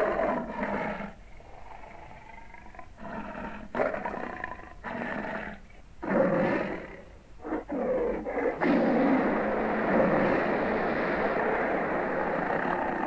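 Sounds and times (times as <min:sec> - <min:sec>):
dinosaur roars: 0:00.0 - 0:13.0.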